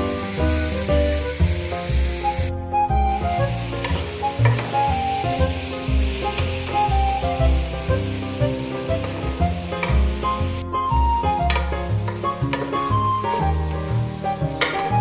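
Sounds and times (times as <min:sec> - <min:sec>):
chicken sizzling in a pot: 0:00.0 - 0:02.5, 0:03.1 - 0:15.0
background music with bass line: 0:00.0 - 0:15.0.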